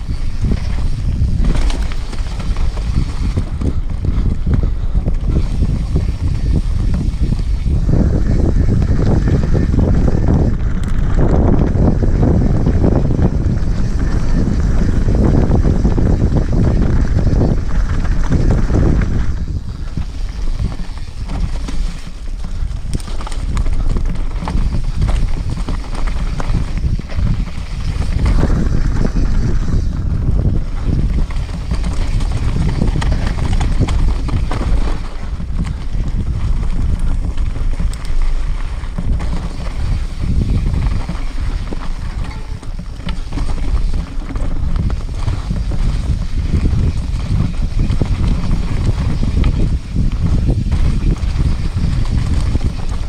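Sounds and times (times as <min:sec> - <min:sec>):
mountain bike rattling over trail: 0:00.0 - 0:53.0
wind buffeting microphone: 0:00.0 - 0:53.0.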